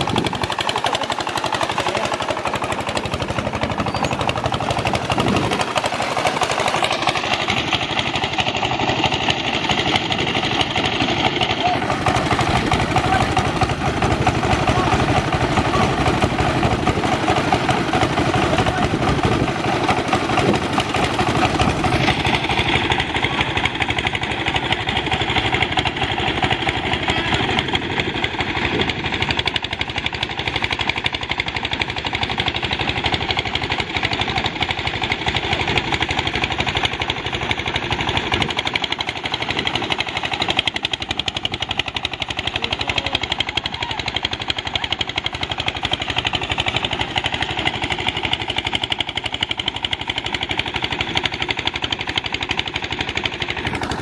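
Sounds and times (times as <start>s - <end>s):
fast continuous rattle: 0.0s - 54.0s
threshing machine engine drone: 0.0s - 54.0s.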